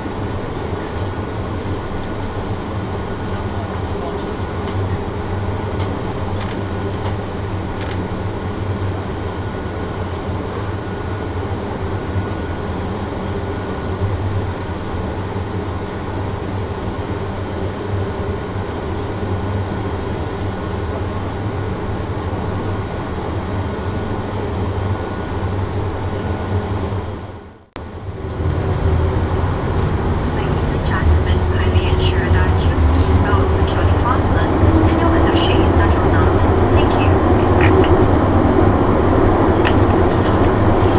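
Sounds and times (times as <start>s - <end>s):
aircraft cabin engine hum: 0.0s - 40.9s
faint steady whine: 0.0s - 40.9s.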